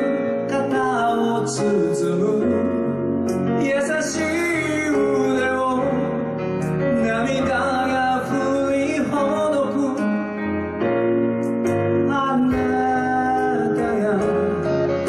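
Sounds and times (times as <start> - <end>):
man singing into microphone: 0.0 - 10.6, 11.7 - 15.0
keyboard and guitar band: 0.0 - 15.0.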